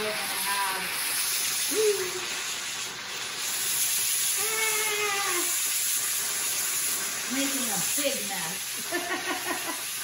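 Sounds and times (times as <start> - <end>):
steam hissing from pressure cooker: 0.0 - 10.0.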